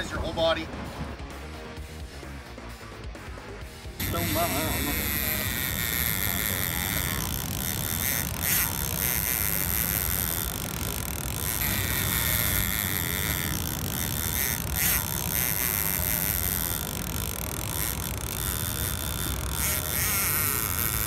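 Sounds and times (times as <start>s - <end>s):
fishing reel drag buzzing: 4.0s - 21.0s.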